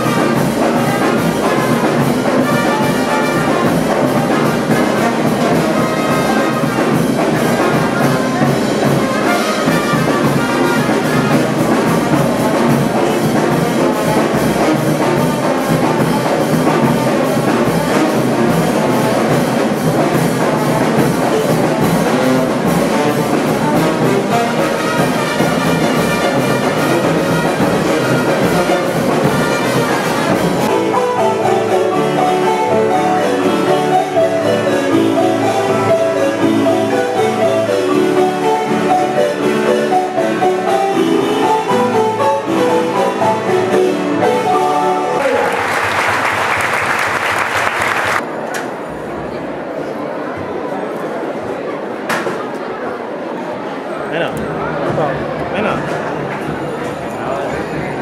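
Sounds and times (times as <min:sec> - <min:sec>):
brass band playing: 0:00.0 - 0:48.3.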